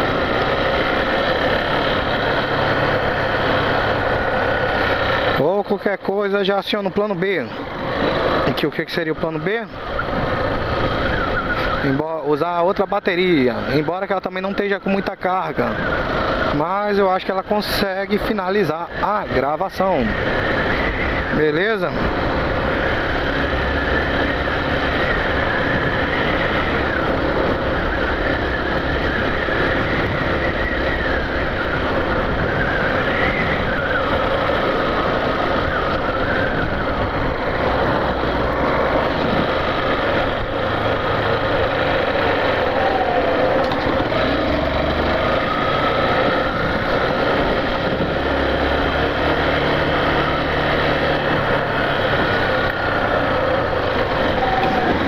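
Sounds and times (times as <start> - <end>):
motorcycle engine running: 0.0 - 12.0, 13.1 - 55.0
wind and road noise: 0.0 - 55.0.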